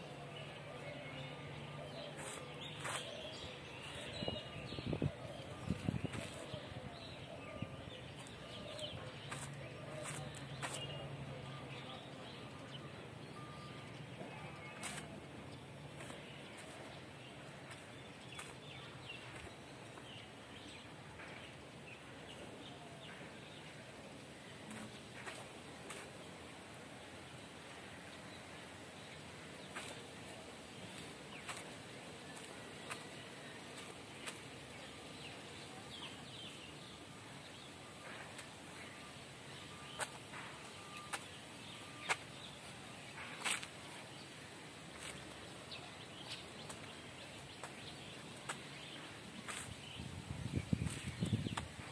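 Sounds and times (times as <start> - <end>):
birds chirping faintly: 0.0 - 51.9
faint outdoor background noise: 0.0 - 51.9.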